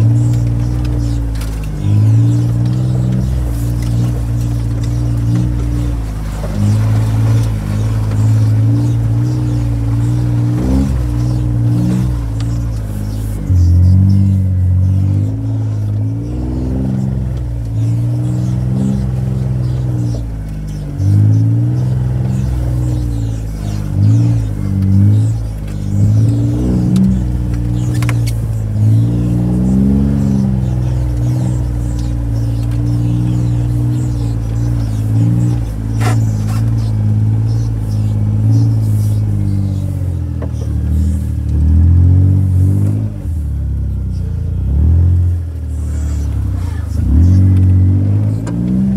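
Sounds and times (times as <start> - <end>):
utility vehicle engine revving: 0.0 - 48.9.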